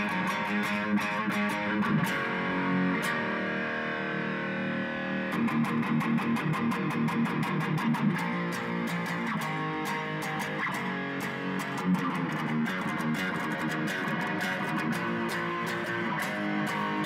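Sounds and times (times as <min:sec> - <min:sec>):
electric guitar music over beat: 0:00.0 - 0:17.0.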